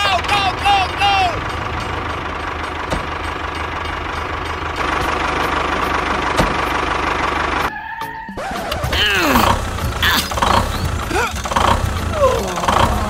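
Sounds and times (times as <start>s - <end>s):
tractor diesel engine knocking: 0.0s - 7.7s, 8.8s - 13.0s.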